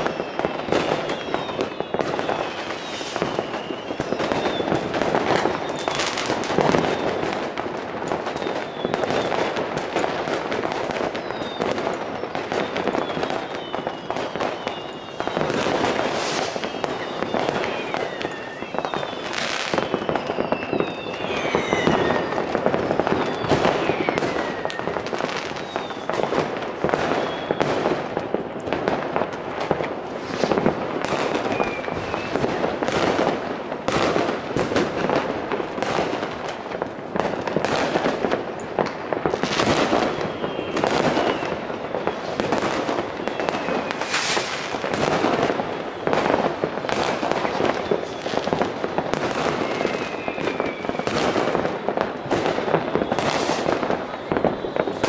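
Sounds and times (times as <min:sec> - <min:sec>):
falling firework whistles: 0:00.0 - 0:55.0
firework bangs: 0:00.0 - 0:55.0.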